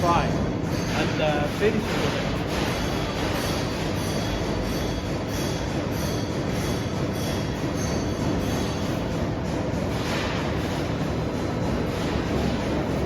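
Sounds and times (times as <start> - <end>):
factory machinery din: 0.0 - 13.0.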